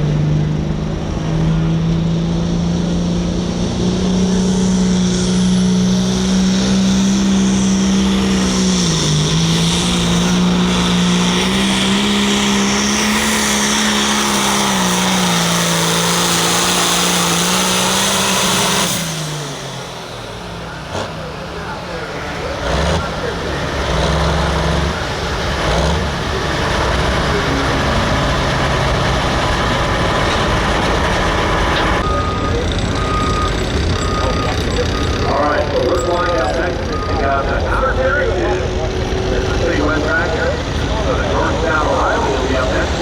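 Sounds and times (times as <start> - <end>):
tractor diesel engine running flat out: 0.0 - 43.0.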